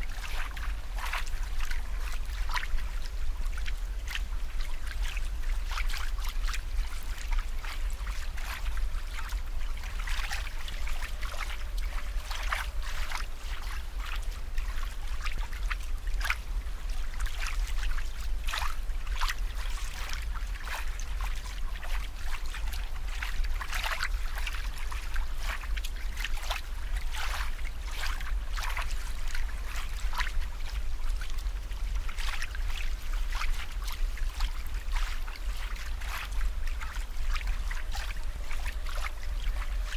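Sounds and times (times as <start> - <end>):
aquarium water bubbling: 0.0 - 39.9
steady low hum: 0.0 - 39.9.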